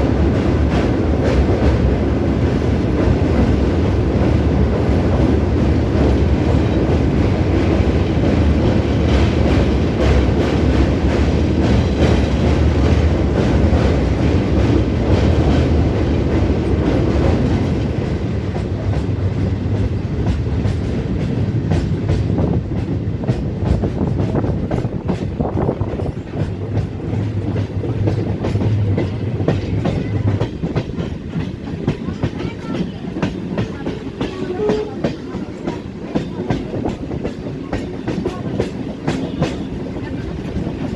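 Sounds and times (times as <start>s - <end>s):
clickety-clack of rails: 0.0s - 40.9s
train wheels rumbling on rail: 0.0s - 40.9s.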